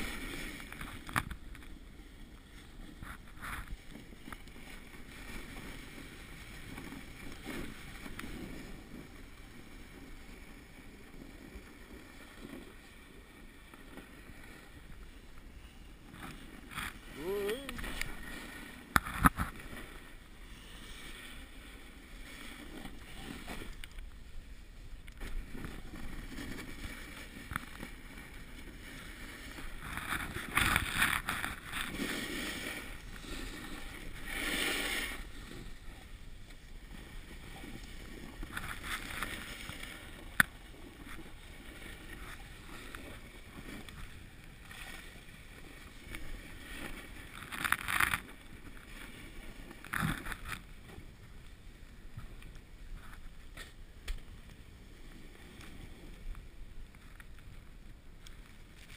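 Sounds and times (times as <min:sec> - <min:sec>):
snowboard sliding on snow: 0:00.0 - 0:18.9, 0:19.5 - 0:54.0.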